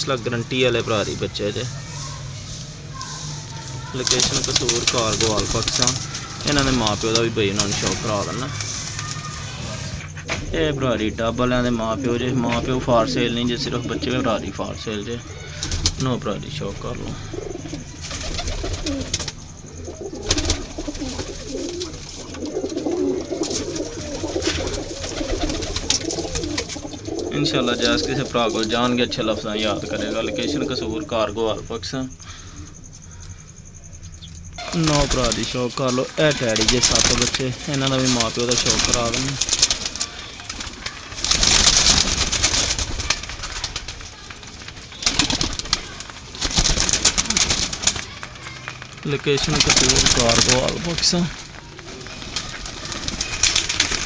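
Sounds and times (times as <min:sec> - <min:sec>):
crackly rustling bursts: 0:00.0 - 0:10.5, 0:11.4 - 0:31.4, 0:32.1 - 0:54.0
pigeons cooing: 0:00.0 - 0:54.0.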